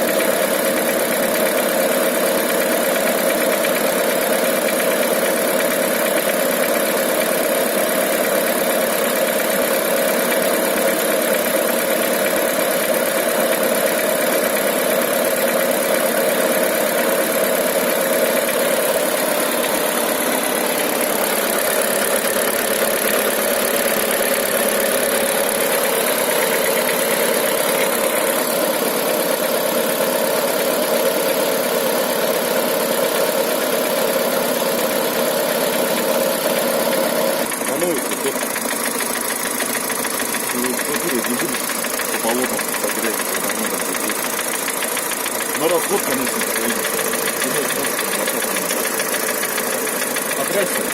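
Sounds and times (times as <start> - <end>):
car engine running with a knock: 0.0 - 50.9.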